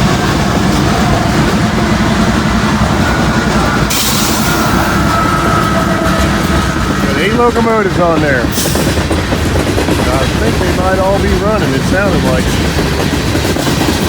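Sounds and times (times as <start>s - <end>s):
diesel locomotive engines: 0.0s - 14.0s
train wheels rumbling on rails: 0.0s - 14.0s.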